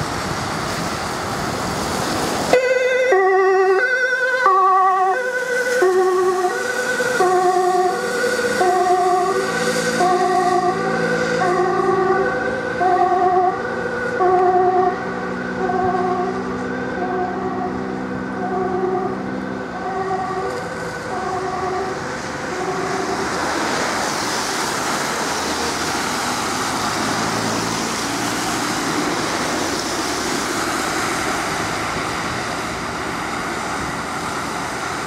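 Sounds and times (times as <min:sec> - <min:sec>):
road traffic with cars passing: 0:00.0 - 0:35.0
two-tone ambulance siren: 0:02.5 - 0:35.0.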